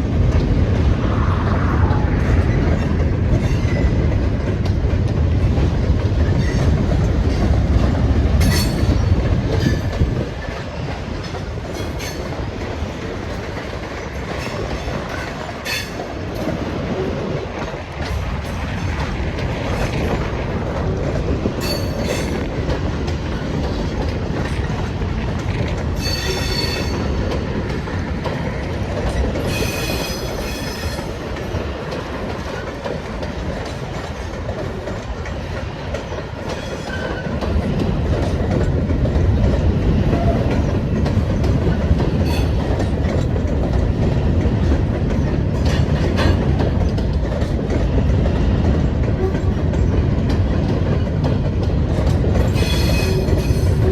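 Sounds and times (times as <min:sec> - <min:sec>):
railroad cars rumbling and clacking: 0:00.0 - 0:53.9.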